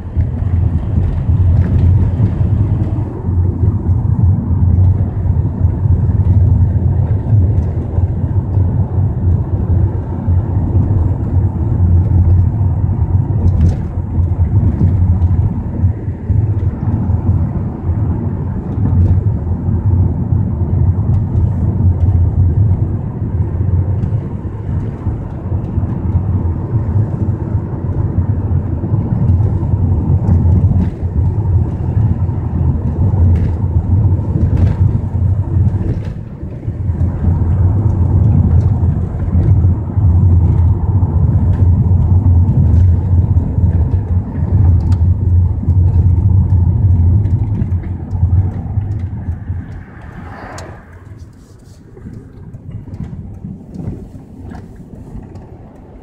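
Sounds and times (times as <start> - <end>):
car driving low rumble: 0.0 - 56.0.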